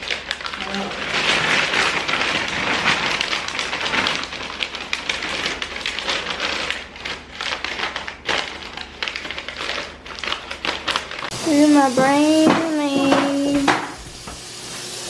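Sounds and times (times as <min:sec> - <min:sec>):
stiff paper crinkling and rustling: 0:00.0 - 0:13.6.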